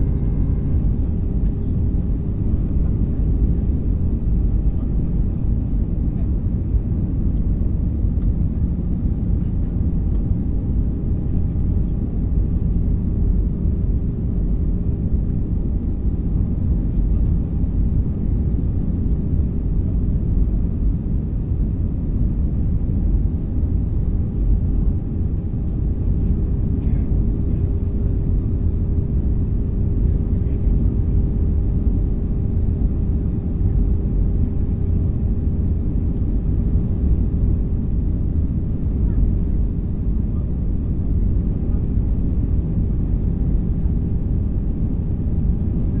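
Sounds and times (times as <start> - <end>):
airliner engine roar: 0.0 - 46.0.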